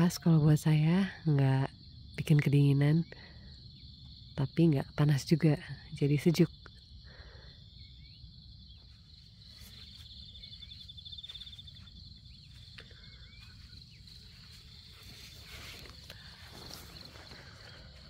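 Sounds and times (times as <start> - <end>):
insects chirring: 0.0 - 18.0
fast insect trill: 1.2 - 18.0.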